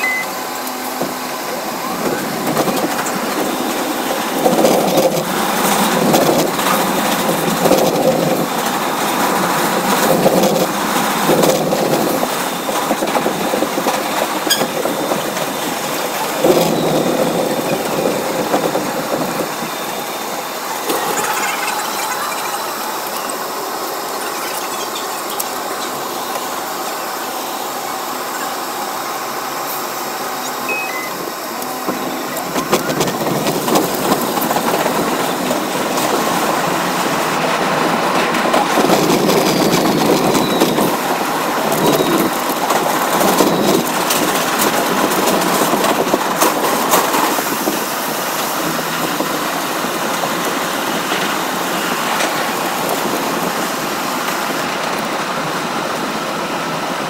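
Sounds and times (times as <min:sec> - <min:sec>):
subway train hum: 0:00.0 - 0:57.0
train wheels rushing on rails: 0:00.0 - 0:57.0.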